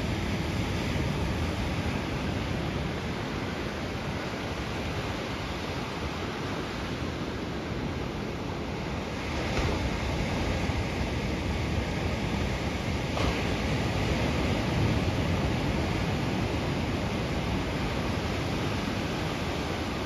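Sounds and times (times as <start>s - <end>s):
ocean surf: 0.0s - 20.0s
wind: 0.0s - 20.0s.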